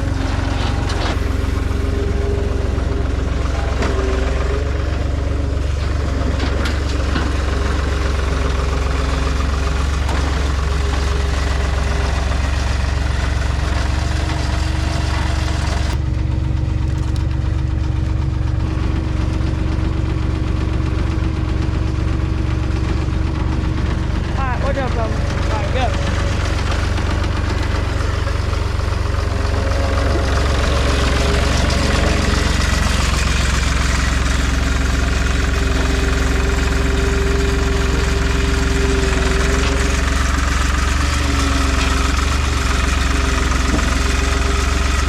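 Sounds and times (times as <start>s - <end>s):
diesel engine rumbling: 0.0s - 45.0s.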